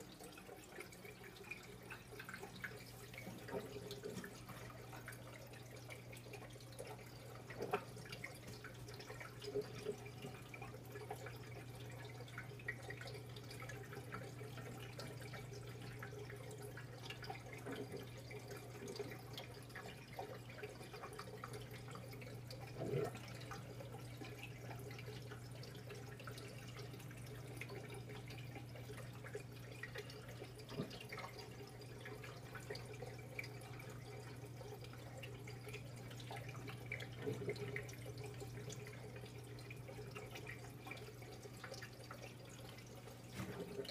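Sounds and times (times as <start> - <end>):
aquarium water trickling: 0.0 - 43.9.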